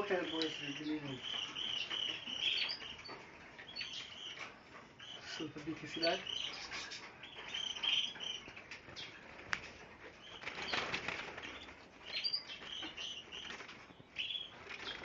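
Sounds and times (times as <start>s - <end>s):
small birds chirping: 0.0s - 15.0s
wings fluttering in cages: 0.0s - 15.0s.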